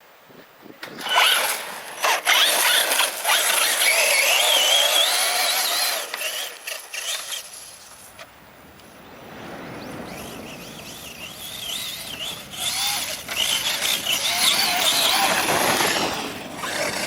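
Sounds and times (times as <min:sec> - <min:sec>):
electric motor whining: 0:00.9 - 0:07.8, 0:09.9 - 0:17.0.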